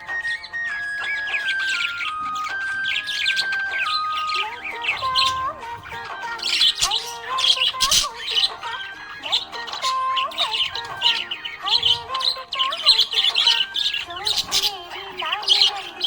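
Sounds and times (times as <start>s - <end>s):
background music: 0.0s - 16.0s
budgerigar chirping: 0.0s - 16.0s.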